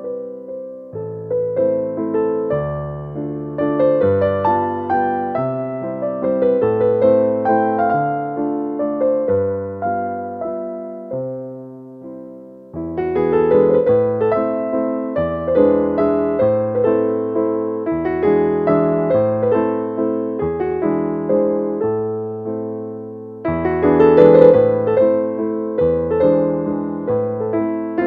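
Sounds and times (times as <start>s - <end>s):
piano melody: 0.0s - 28.0s.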